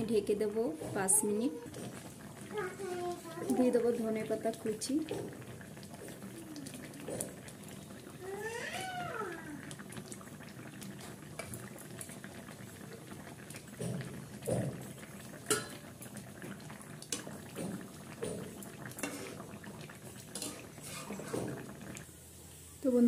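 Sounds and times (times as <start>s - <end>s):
curry bubbling in a pan: 0.0s - 22.2s.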